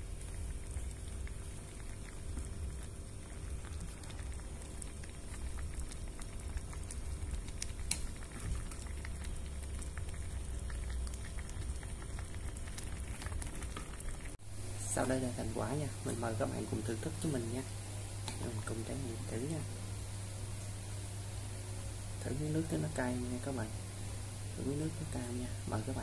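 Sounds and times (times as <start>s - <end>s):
broth boiling and bubbling: 0.0s - 26.0s
low steady rumble: 0.0s - 26.0s.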